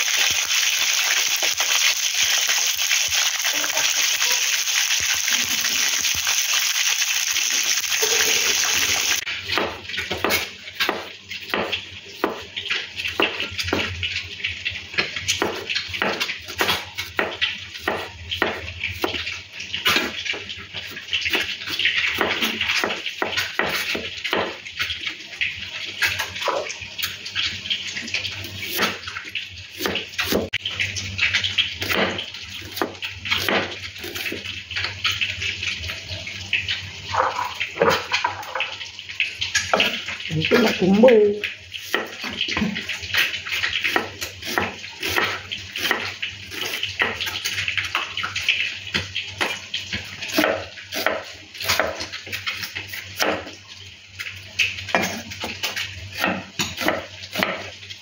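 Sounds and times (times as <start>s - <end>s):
eggs sizzling in hot oil: 0.0s - 58.0s.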